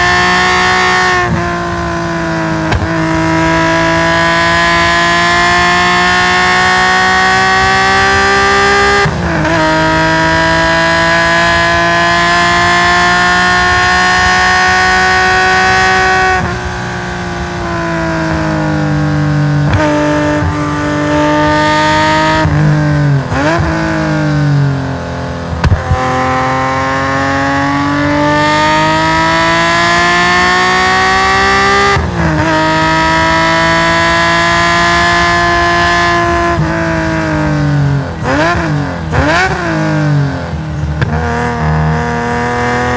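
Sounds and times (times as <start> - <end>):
engine throttle blips: 0.0 - 42.9
race car engine at full throttle: 0.0 - 42.9.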